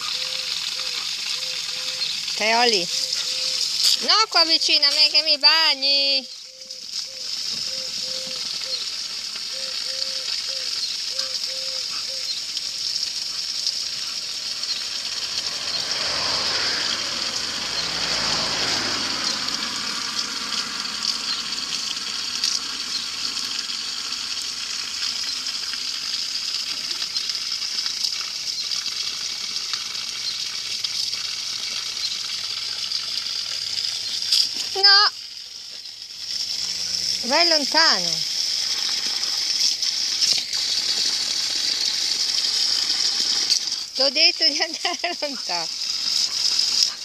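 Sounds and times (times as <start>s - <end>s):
garden hose spraying: 0.0s - 47.0s
water splashing on grass: 0.0s - 47.0s.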